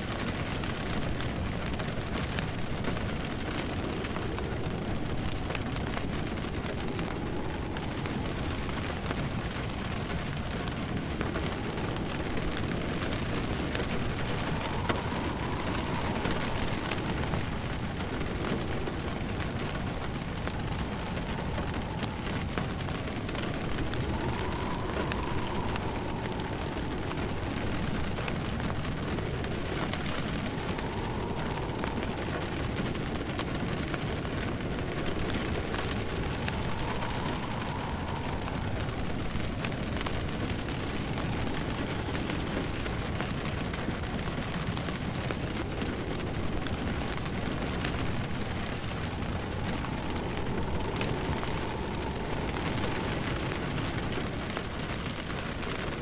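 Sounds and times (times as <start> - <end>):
faint wind: 0.0 - 56.0
steady rain: 0.0 - 56.0
wood fire crackling: 0.0 - 56.0.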